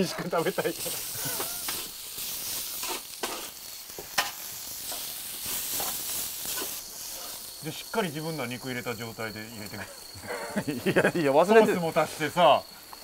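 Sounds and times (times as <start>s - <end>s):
noodles sizzling on a griddle: 0.0s - 13.0s.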